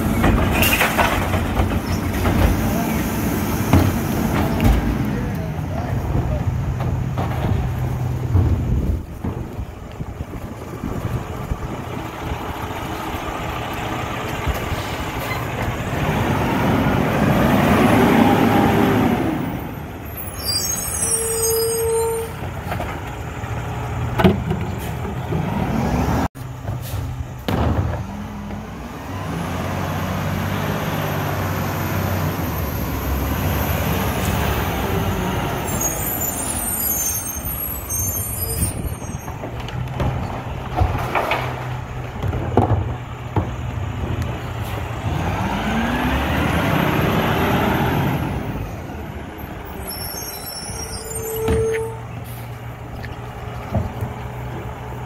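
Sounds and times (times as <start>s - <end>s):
garbage truck diesel engines: 0.0s - 55.0s.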